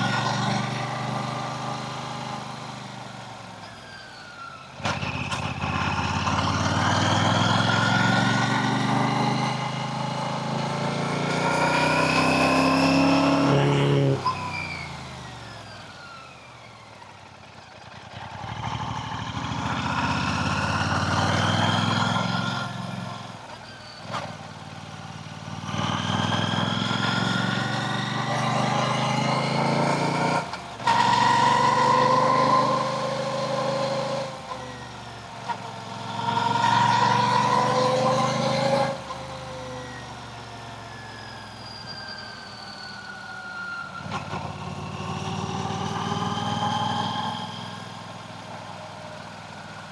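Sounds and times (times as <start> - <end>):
motorcycle engine accelerating: 0.0 - 3.5, 4.8 - 15.8, 16.7 - 41.3, 44.0 - 49.9.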